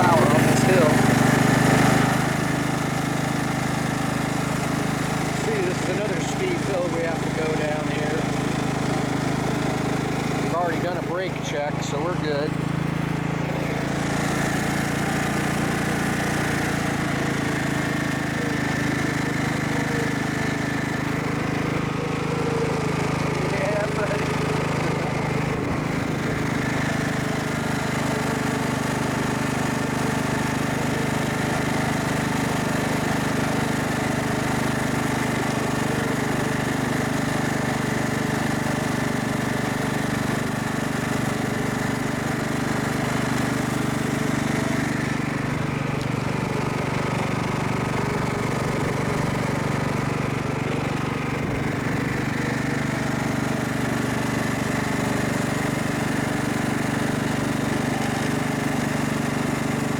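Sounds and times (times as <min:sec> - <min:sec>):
riding lawn mower engine running: 0:00.0 - 0:59.9.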